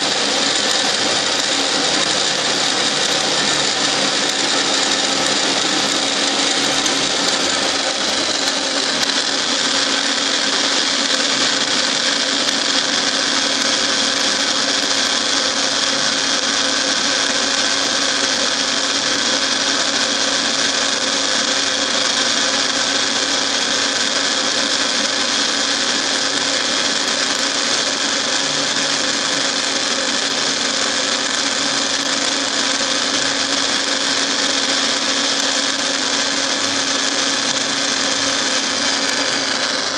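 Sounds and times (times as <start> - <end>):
milling machine humming and hissing: 0.0 - 39.9.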